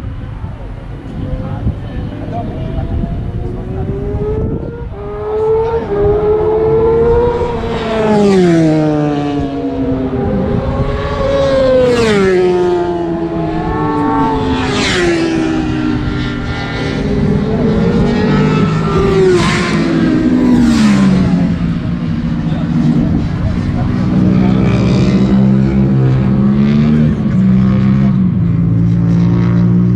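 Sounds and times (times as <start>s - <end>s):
motorcycle passing: 0.0s - 29.9s
race vehicle engines revving: 0.0s - 29.9s.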